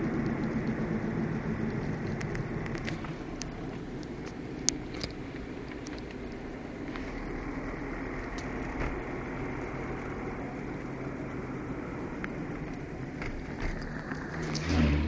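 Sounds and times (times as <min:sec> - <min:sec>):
engine and road noise hiss: 0:00.0 - 0:15.0.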